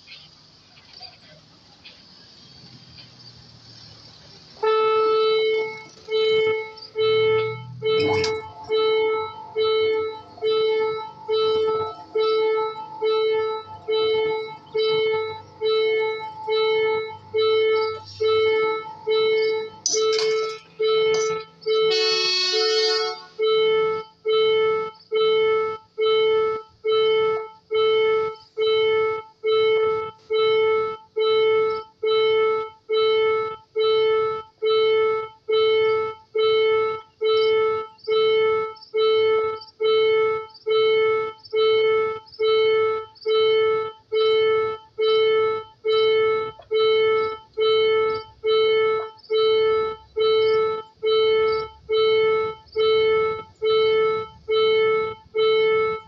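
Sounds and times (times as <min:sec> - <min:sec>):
level crossing warning bell: 0:04.6 - 0:56.0.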